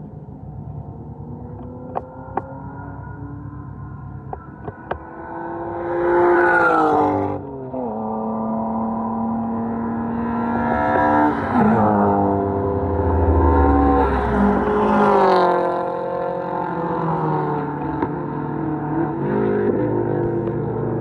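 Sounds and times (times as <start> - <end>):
racing cars passing at speed: 0.3 - 21.0.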